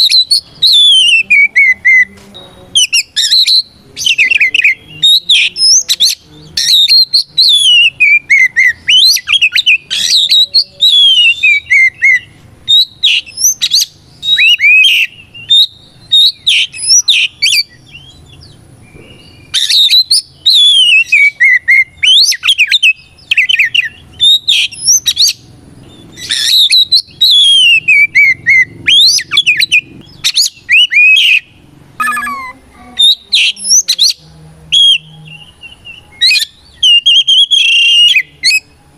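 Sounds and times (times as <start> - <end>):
bird singing chirps and whistles: 0.0 - 38.8.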